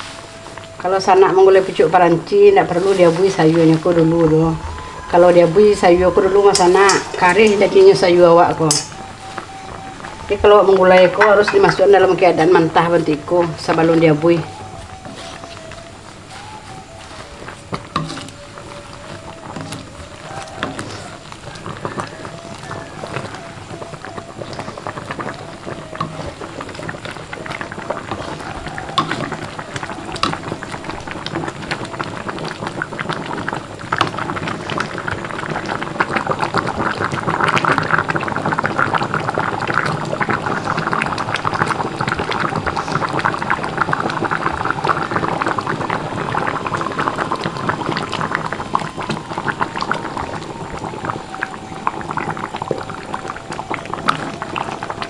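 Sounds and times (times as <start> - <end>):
curry bubbling at a boil: 0.0 - 55.0.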